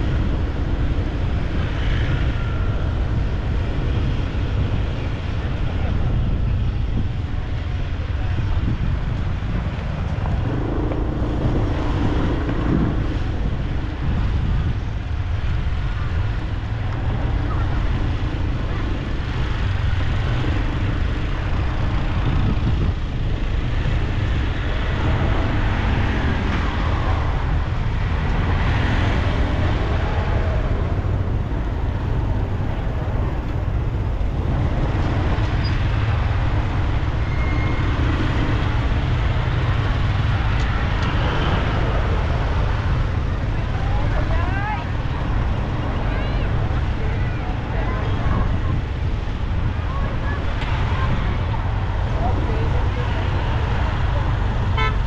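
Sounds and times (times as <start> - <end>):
road traffic: 0.0 - 55.0
wind on microphone: 0.0 - 55.0.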